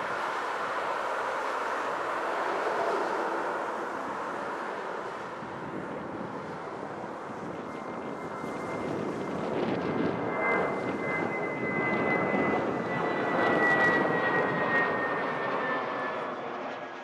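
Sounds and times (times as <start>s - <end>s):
jet engines roaring with whine: 0.0s - 17.0s.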